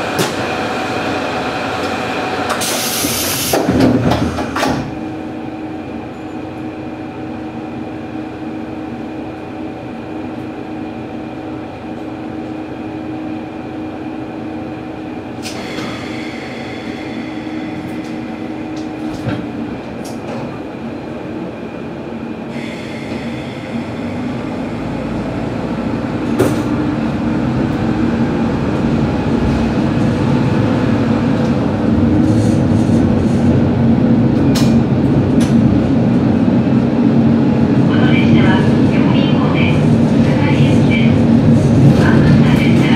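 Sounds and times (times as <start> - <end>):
diesel railcar engine: 0.0 - 42.9.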